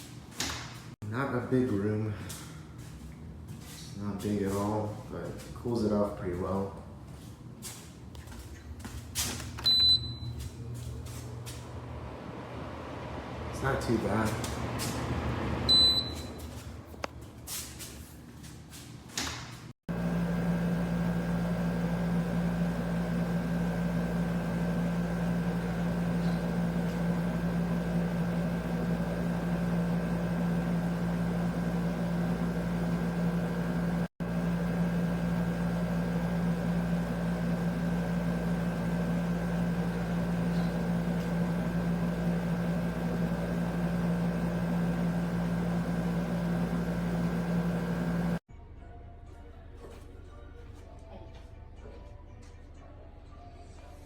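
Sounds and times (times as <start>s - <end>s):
air conditioner humming: 0.0s - 48.4s.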